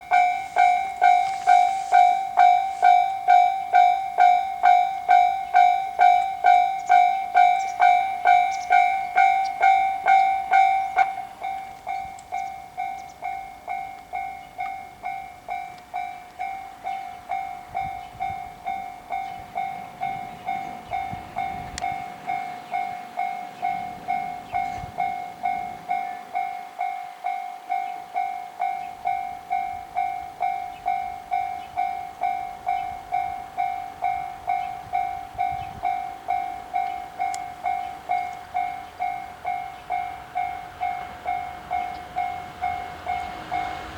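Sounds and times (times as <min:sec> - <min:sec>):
level crossing warning bell: 0:00.0 - 0:43.9.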